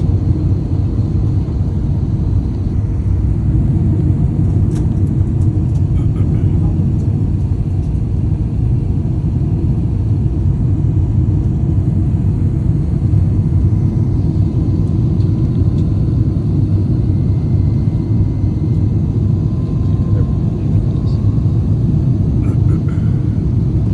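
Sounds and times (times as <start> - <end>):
airliner rumble: 0.0 - 23.9.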